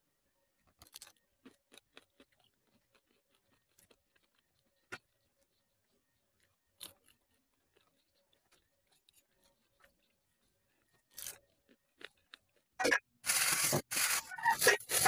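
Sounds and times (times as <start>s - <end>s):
sticky food clicking and crackling: 0.0s - 15.0s.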